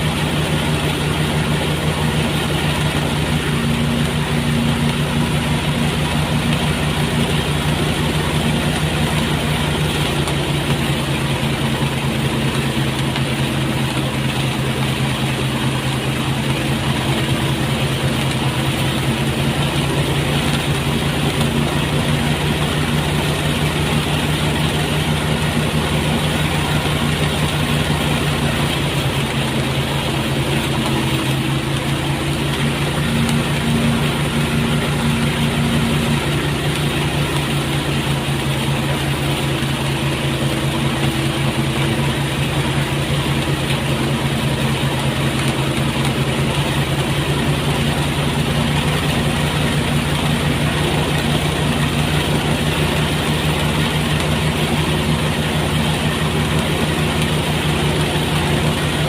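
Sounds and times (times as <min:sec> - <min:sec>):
threshing machine humming: 0:00.0 - 0:59.0.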